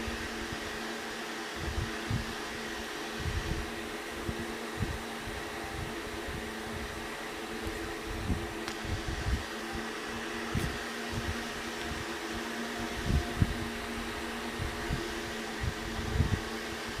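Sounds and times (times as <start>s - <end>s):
motor hum with hiss: 0.0s - 17.0s.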